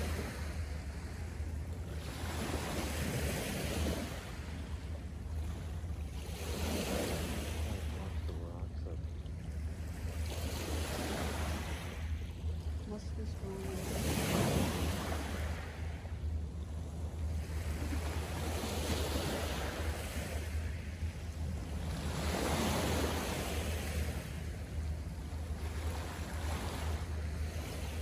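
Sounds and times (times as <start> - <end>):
steady low rumble: 0.0 - 28.0
waves washing onto shore: 0.0 - 28.0.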